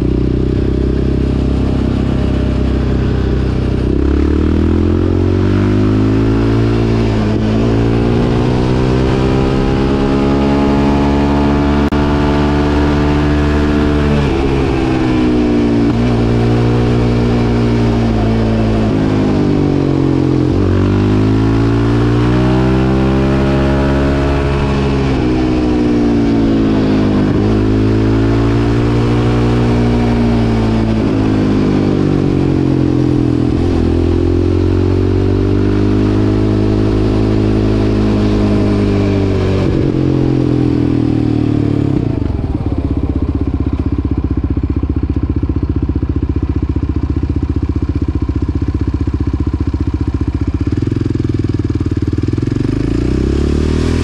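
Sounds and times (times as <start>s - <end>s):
quad engine accelerating: 0.0s - 54.0s.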